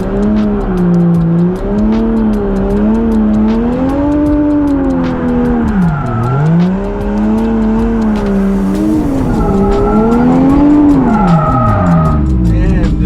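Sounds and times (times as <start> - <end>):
tires squealing: 0.0 - 12.8
car engine revving: 0.0 - 13.0.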